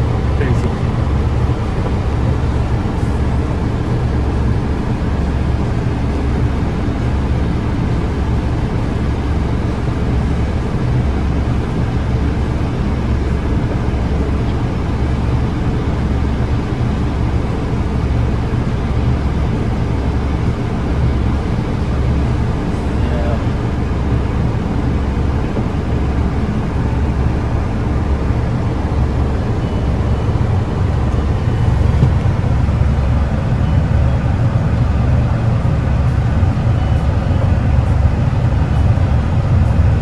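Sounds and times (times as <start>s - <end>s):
strong wind buffeting microphone: 0.0s - 40.0s.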